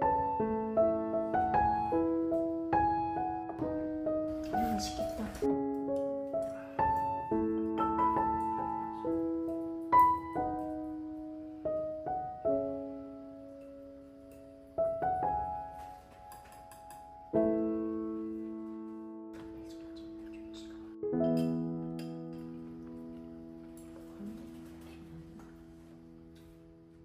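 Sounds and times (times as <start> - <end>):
slow solo piano: 0.0 - 27.0.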